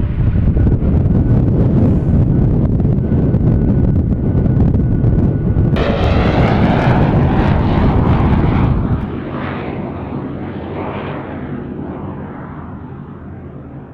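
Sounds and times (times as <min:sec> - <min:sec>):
jet engines roaring past: 0:00.0 - 0:13.9.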